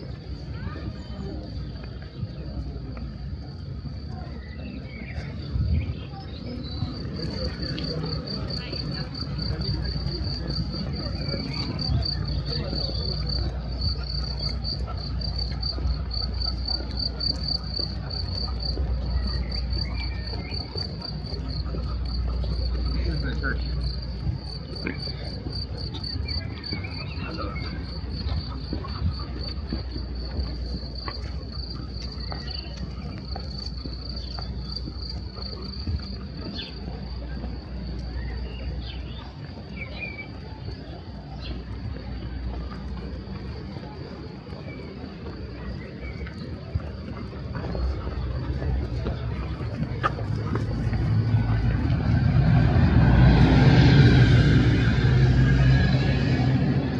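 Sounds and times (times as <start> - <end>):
constant low rumble: 0.0 - 56.9.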